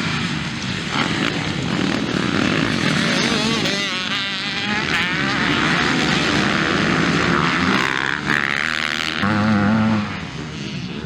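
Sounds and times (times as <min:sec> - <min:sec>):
motorbike engines revving: 0:00.0 - 0:11.0.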